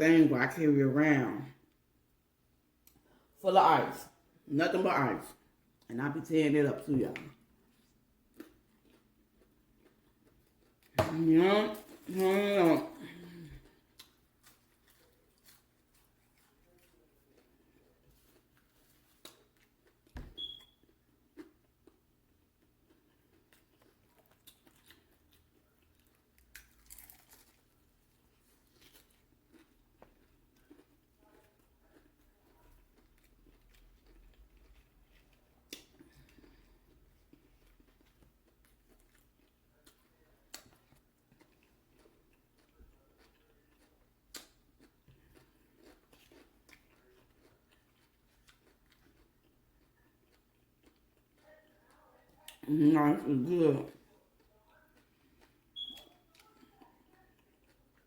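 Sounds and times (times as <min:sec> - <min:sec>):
chewing crisp food: 0:07.1 - 0:58.0.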